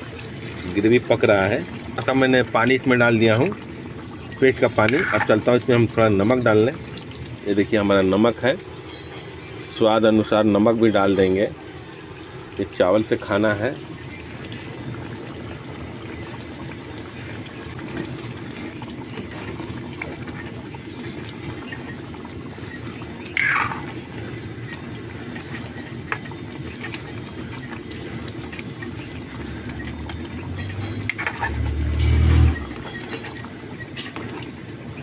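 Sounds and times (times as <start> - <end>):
gravy simmering: 0.0 - 35.0.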